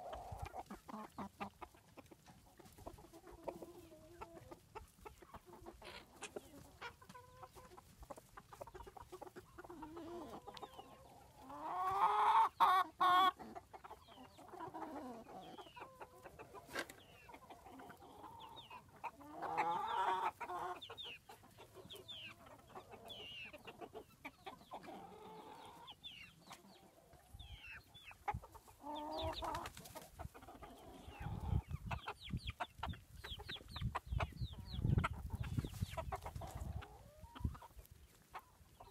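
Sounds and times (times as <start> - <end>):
chicken drawn-out calls: 0.0 - 38.9
chickens clucking and chirping: 0.0 - 38.9.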